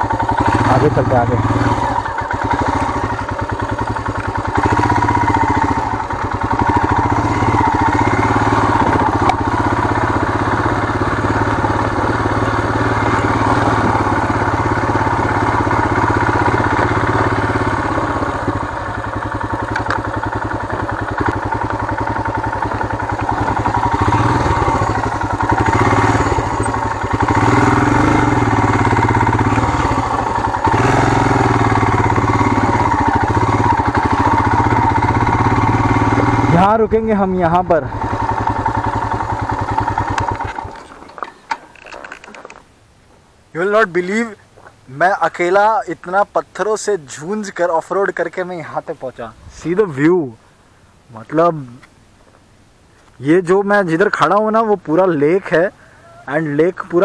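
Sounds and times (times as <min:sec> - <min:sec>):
motorcycle engine at low speed: 0:00.0 - 0:52.7, 0:53.3 - 0:57.0.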